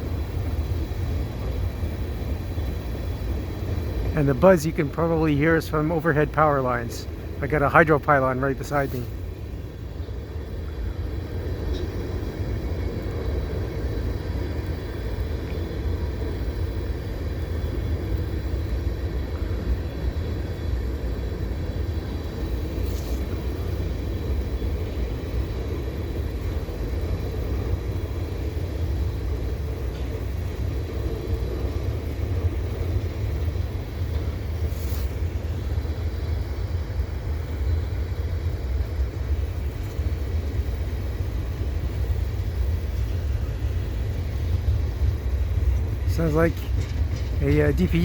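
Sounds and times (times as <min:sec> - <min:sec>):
freight train wheels rumbling: 0:00.0 - 0:48.0.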